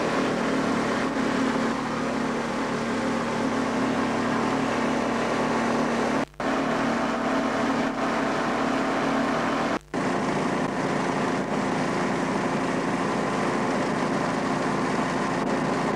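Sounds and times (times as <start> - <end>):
ultralight aircraft engine and propeller: 0.0 - 15.9.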